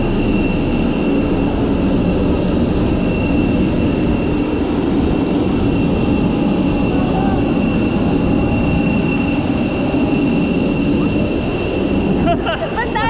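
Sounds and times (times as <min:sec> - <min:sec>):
high engine whine: 0:00.0 - 0:13.0
jet engines rumbling: 0:00.0 - 0:13.0.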